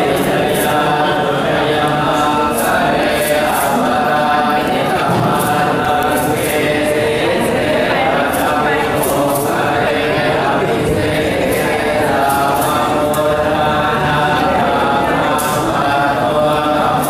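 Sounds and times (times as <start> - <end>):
monks chanting in unison: 0.0 - 17.0.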